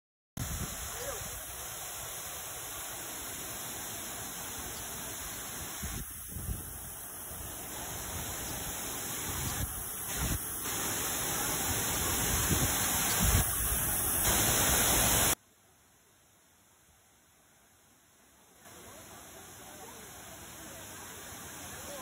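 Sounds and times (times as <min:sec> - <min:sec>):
waterfall rushing: 0:00.4 - 0:15.4, 0:18.7 - 0:22.0.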